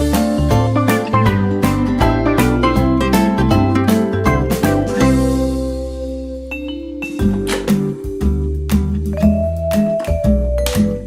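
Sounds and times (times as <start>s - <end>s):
cheerful children's music: 0.0s - 11.0s.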